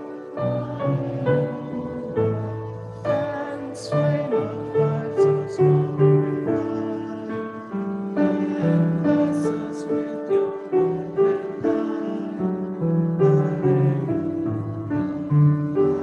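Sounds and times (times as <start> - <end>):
congregation singing a hymn: 0.0 - 16.0
grand piano accompaniment: 0.0 - 16.0.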